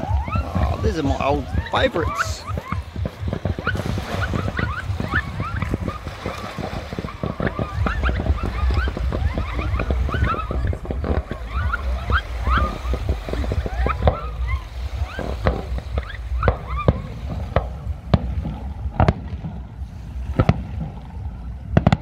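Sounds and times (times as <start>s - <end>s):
fireworks popping and banging: 0.0s - 22.0s
low rumble: 0.0s - 22.0s.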